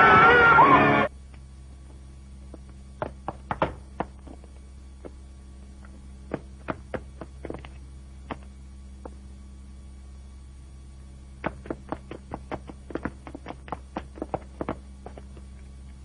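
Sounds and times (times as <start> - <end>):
film soundtrack low hum: 0.0 - 16.0.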